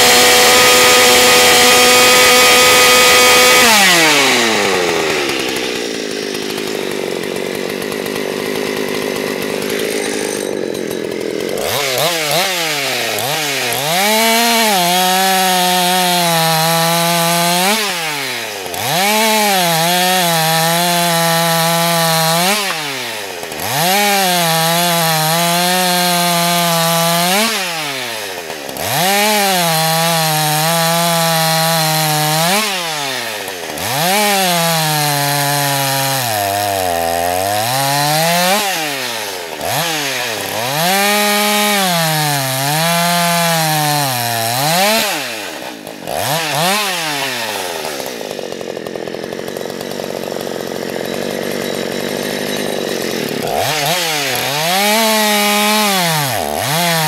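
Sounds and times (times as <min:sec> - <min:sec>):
chainsaw cutting log: 0:00.0 - 0:57.0
chainsaw engine: 0:00.0 - 0:57.0.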